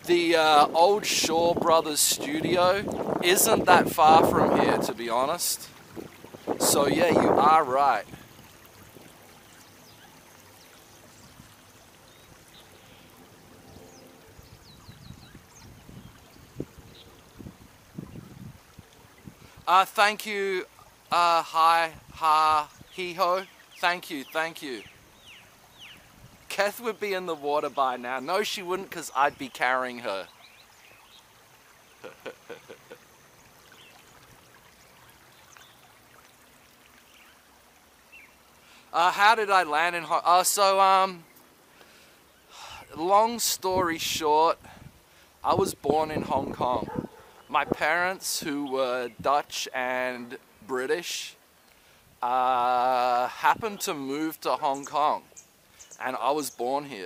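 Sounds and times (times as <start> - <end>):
water trickling in channel: 0.0 - 57.0.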